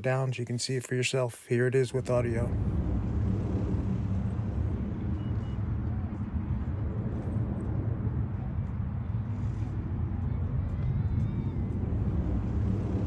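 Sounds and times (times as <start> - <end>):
jet airliner rumble overhead: 1.5 - 13.0.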